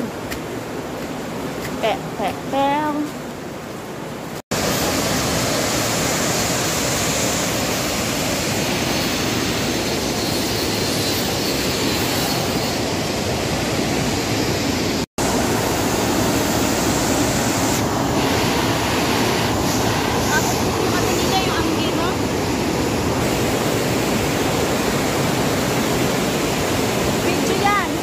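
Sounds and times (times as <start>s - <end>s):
waterfall roaring: 4.5s - 28.0s.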